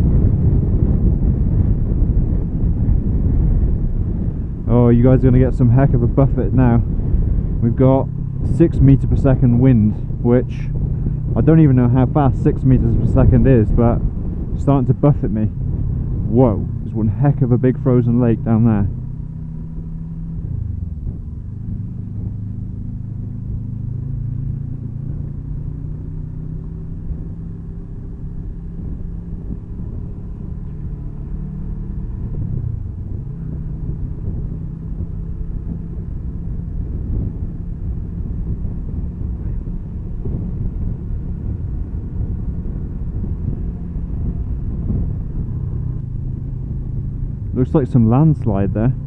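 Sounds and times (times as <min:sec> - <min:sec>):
motorcycle engine running: 0:00.0 - 0:49.0
wind on microphone: 0:00.0 - 0:49.0.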